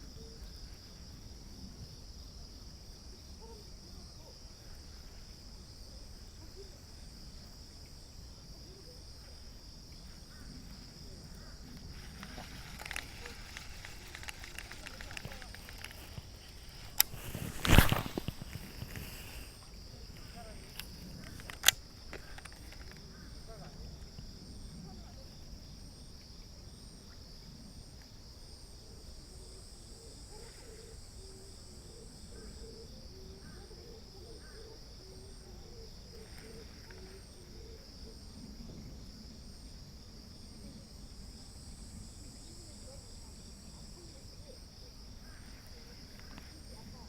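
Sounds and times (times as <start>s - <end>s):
insect chirping in pulses: 0.0s - 47.0s
insects trilling: 0.0s - 47.0s.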